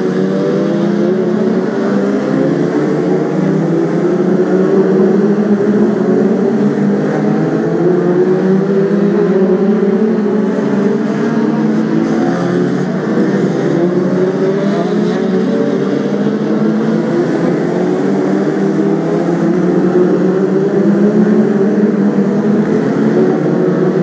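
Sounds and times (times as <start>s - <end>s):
stock car engines droning: 0.0s - 24.0s.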